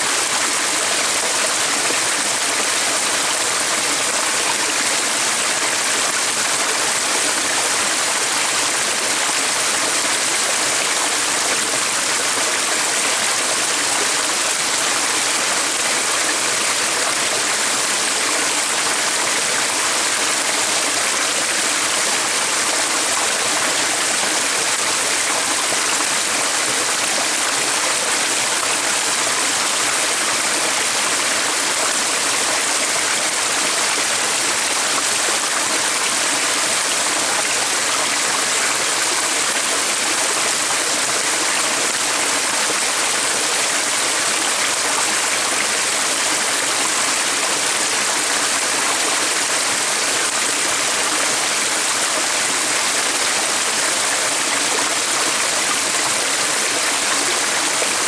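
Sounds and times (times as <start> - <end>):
stream running water: 0.0 - 58.0.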